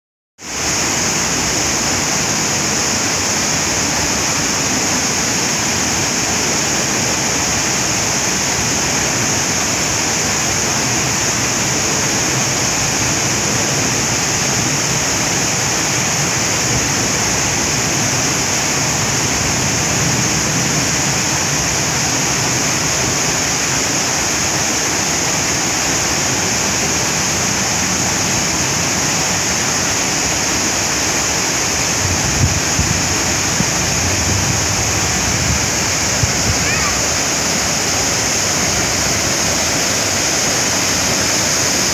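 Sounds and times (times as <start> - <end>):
waterfall rushing and splashing: 0.4 - 41.9.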